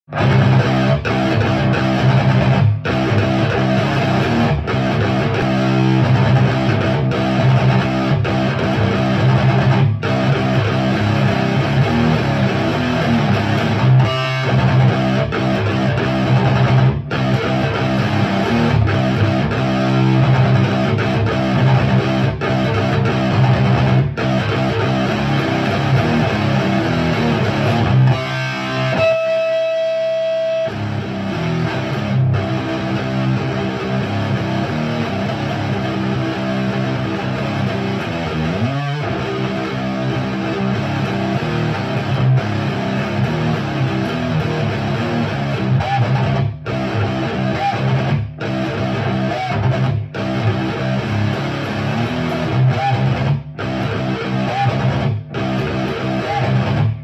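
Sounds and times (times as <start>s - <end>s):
electric guitar riffs: 0.0s - 57.0s.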